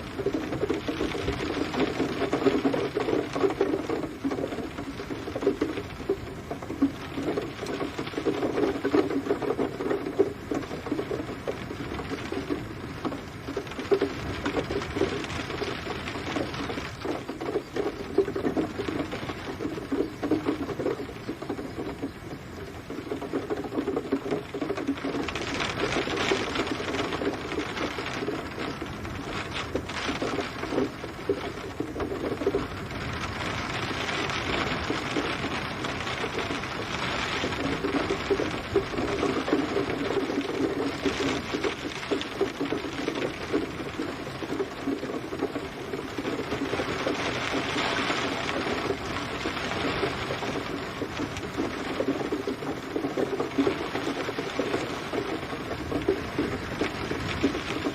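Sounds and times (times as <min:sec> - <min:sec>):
rain pattering on hard surface: 0:00.0 - 0:57.9.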